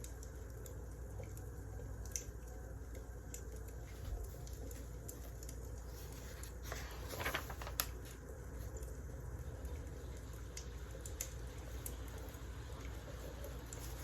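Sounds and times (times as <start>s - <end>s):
firewood crackling in fireplace: 0.0s - 14.0s.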